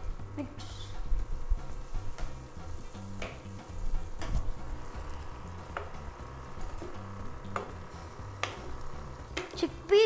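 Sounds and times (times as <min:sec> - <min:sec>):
food sizzling in a pot: 0:00.1 - 0:10.0.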